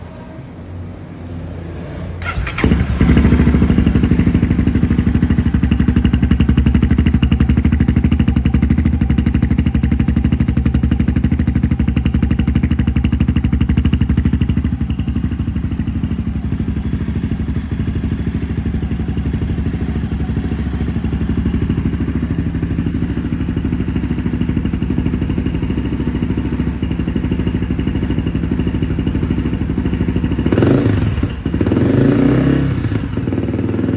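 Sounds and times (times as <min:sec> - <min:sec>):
motorcycle engine running: 0:02.2 - 0:33.9.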